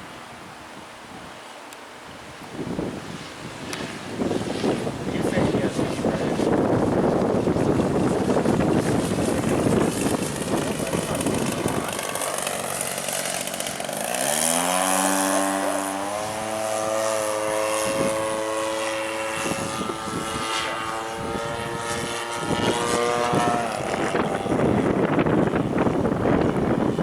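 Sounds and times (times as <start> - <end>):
model airplane motor drone: 0.0 - 27.0
wind noise on microphone: 2.0 - 27.0.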